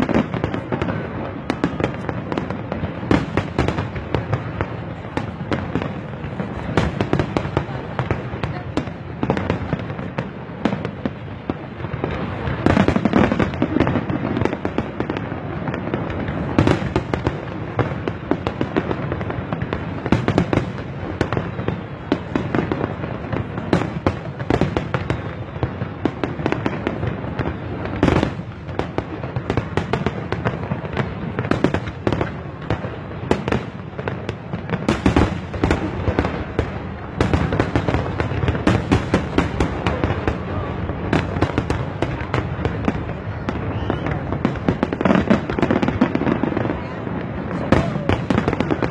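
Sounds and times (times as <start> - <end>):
fireworks bangs and crackling: 0.0 - 48.9
fireworks burst explosions: 0.0 - 48.9.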